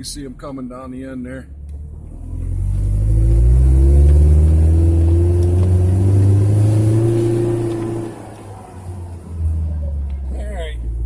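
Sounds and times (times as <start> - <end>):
pickup engine revving: 1.6 - 11.0.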